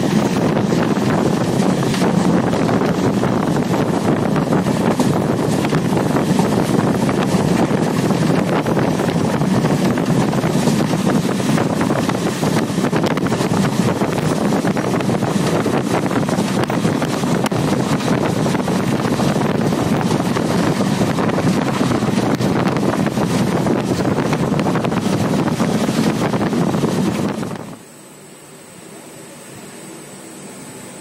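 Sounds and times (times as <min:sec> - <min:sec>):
wind on microphone: 0:00.0 - 0:27.8
moving train running: 0:00.0 - 0:31.0.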